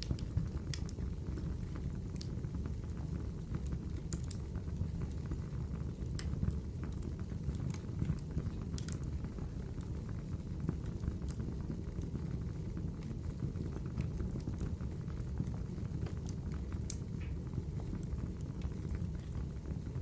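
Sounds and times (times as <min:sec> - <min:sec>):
fire rumbling: 0:00.0 - 0:20.0
wood crackling and popping: 0:00.0 - 0:20.0.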